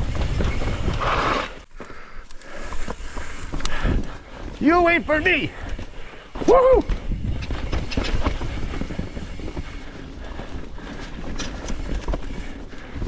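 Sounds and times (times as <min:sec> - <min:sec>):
bike rattles and knocks: 0:00.0 - 0:04.8, 0:05.5 - 0:13.0
bike tyres rumbling on dirt: 0:00.0 - 0:13.0.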